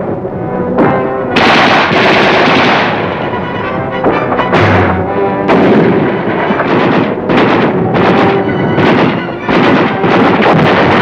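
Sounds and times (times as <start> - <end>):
loud explosions with rumble: 0.8 - 3.4, 4.0 - 11.0
gunfire: 1.4 - 3.3, 4.0 - 11.0.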